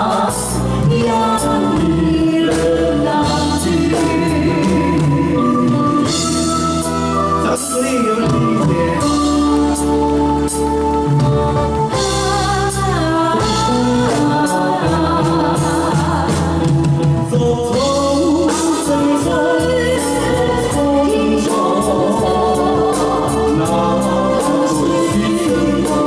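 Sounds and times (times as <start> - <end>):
live band playing: 0.0 - 26.0
man and woman singing duet: 0.0 - 26.0.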